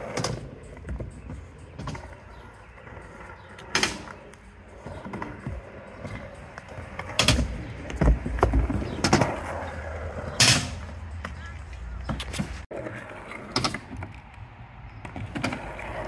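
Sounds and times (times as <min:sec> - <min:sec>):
skateboard wheels rolling on concrete: 0:00.0 - 0:16.0.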